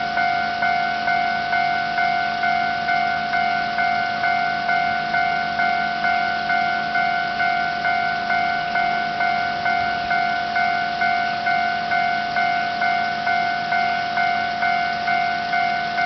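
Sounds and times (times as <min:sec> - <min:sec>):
level crossing warning bell ringing: 0:00.0 - 0:16.0.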